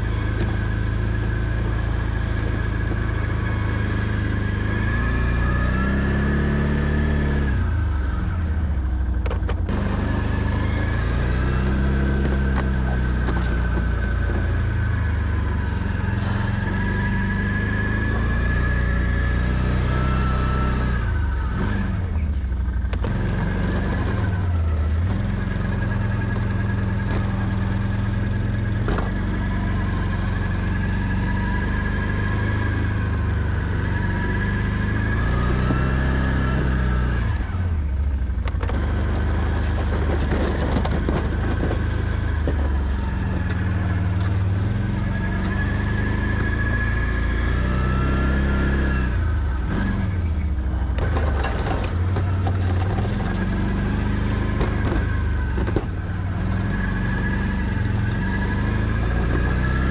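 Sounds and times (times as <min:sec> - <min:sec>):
atv engine plowing snow: 0:00.0 - 0:08.7, 0:09.7 - 0:59.9.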